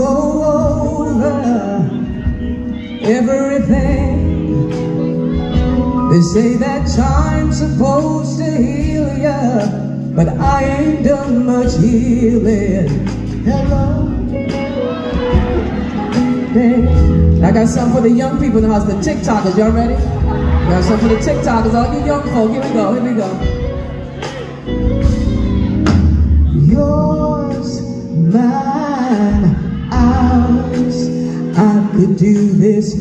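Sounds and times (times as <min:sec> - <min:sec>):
soul band playing: 0:00.0 - 0:33.0.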